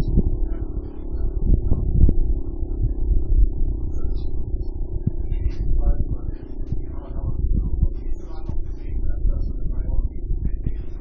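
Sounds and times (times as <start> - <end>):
low rumble: 0.0 - 11.0
motor siren steady tone: 0.0 - 11.0.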